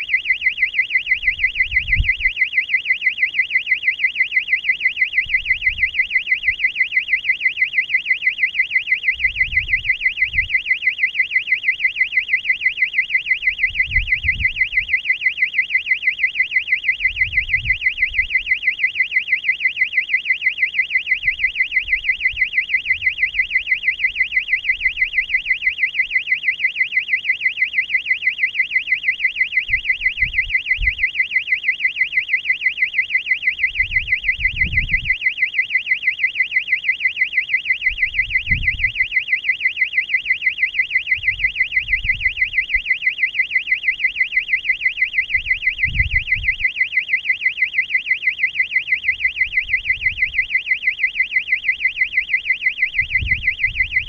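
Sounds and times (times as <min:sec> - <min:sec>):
high-pitched warbling alarm: 0:00.0 - 0:54.0.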